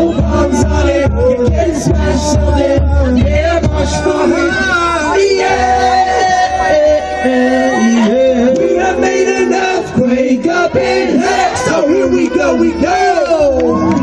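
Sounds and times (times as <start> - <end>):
bass-heavy backing track: 0.0 - 14.0
live singing: 0.0 - 14.0.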